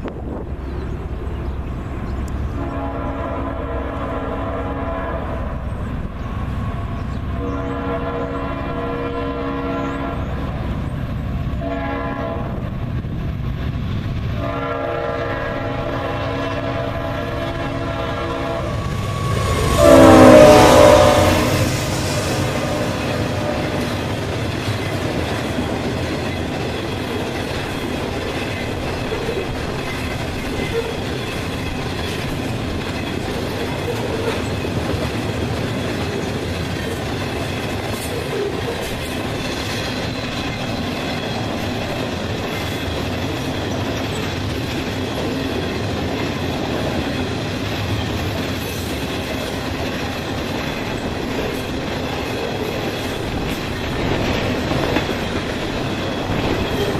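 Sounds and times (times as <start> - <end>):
train wheels on rails: 0.0 - 56.9.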